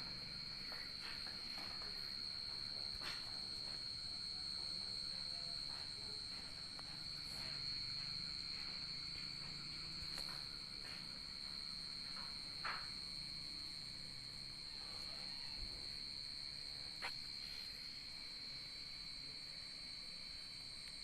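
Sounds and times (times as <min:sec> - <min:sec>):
insect high-pitched buzzing: 0:00.0 - 0:21.0.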